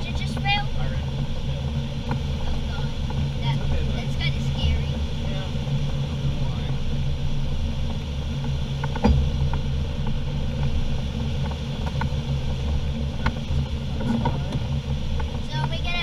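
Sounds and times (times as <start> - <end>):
airflow rumble in cockpit: 0.0 - 16.0.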